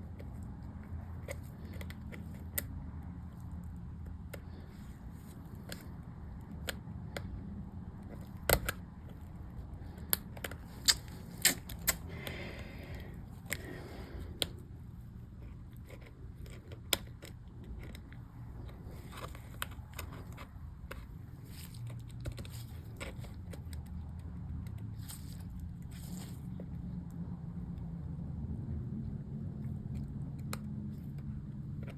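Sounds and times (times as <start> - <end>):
steady low hum: 0.0 - 31.9
plastic keycaps clicking: 0.1 - 26.0.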